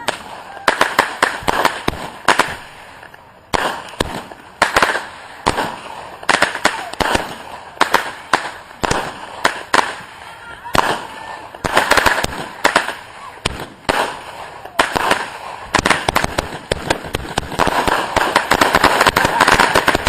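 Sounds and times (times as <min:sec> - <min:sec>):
fireworks banging and crackling: 0:00.0 - 0:20.0.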